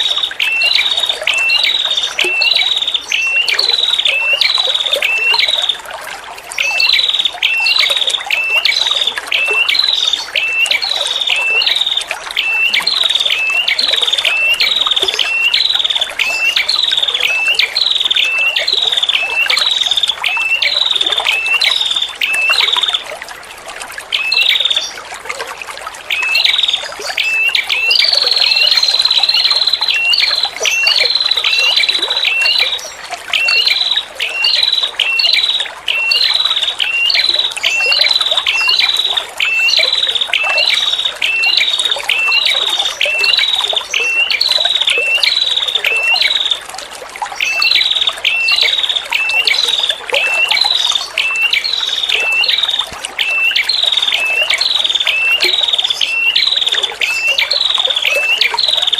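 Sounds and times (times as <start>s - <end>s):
water trickling: 0.0s - 58.9s.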